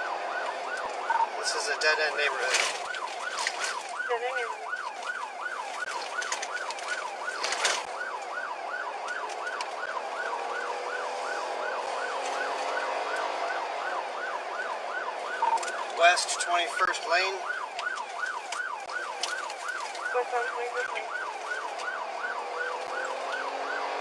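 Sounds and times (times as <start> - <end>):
police siren yelping: 0.0 - 24.0.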